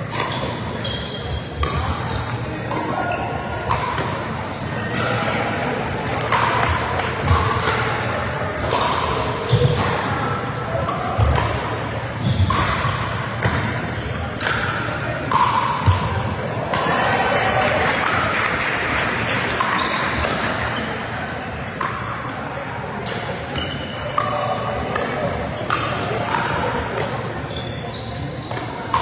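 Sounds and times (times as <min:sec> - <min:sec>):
players' voices: 0:00.8 - 0:29.0.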